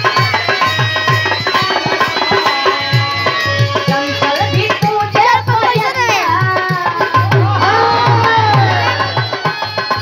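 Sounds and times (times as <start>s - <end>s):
hand drum beating steady rhythm: 0.0s - 10.0s
harmonium playing melody: 0.0s - 10.0s.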